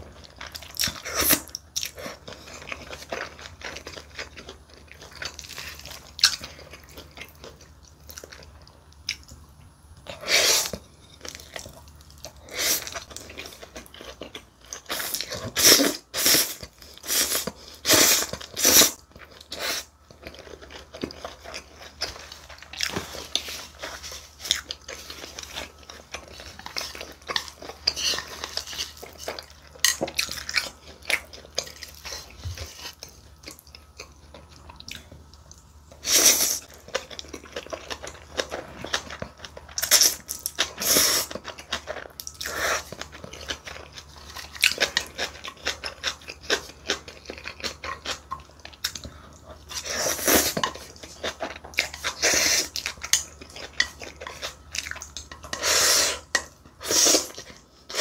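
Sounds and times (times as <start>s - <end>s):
chewing and smacking: 0.0s - 58.0s.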